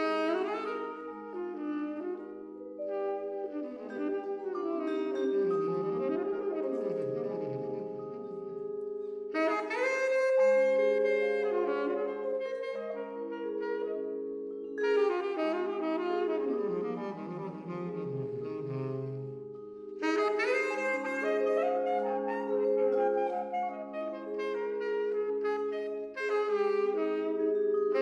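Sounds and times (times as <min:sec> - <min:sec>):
ringing vibraphone chords: 0:00.0 - 0:28.0
saxophone playing long phrases: 0:00.0 - 0:28.0.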